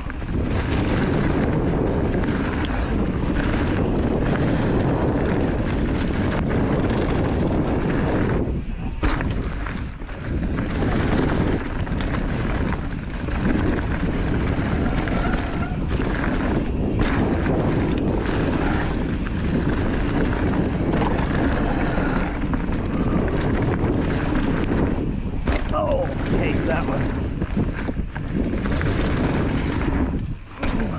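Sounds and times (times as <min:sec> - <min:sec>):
bike rattling over rocky trail: 0:00.0 - 0:30.9
wind buffeting microphone: 0:00.0 - 0:30.9.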